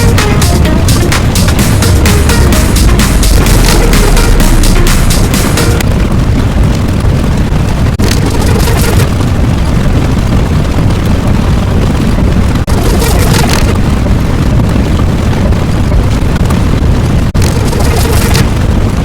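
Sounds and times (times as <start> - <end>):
loud low rumbling: 0.0 - 19.0.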